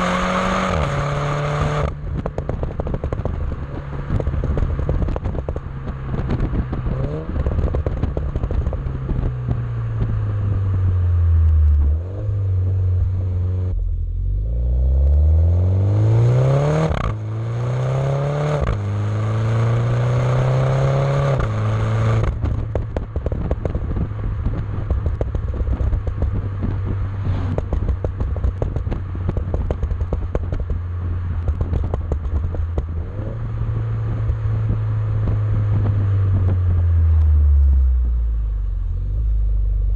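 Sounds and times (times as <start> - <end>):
car engine accelerating: 0.0 - 39.9
exhaust crackling and popping: 0.0 - 39.9.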